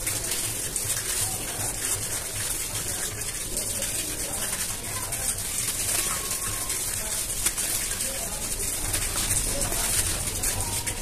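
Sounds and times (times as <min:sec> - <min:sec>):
cement powder sifting into bucket: 0:00.0 - 0:11.0
tiny crackles: 0:00.1 - 0:11.0.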